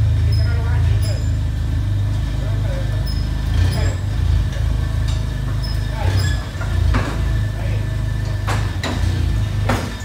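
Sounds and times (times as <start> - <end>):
forklift engine humming: 0.0 - 10.0.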